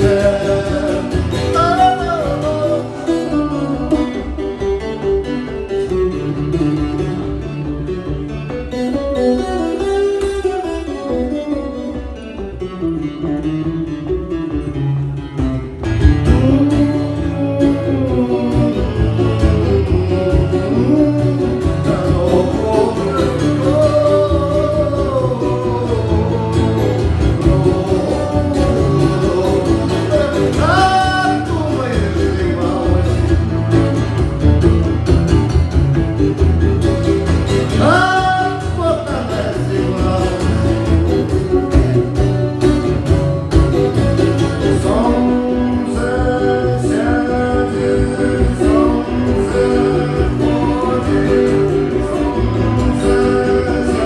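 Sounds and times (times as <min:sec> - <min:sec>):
man singing: 0:00.0 - 0:07.6, 0:15.9 - 0:54.0
acoustic guitar strumming: 0:00.0 - 0:54.0.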